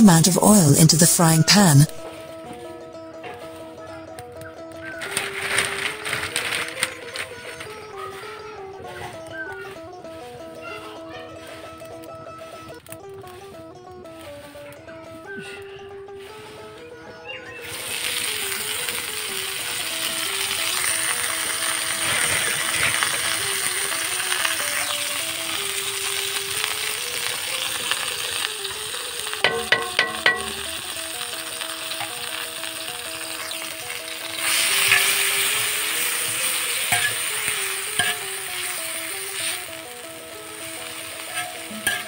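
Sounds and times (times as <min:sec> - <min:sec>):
flowers sizzling in hot oil: 0:00.0 - 0:42.0
soft background music: 0:00.0 - 0:42.0.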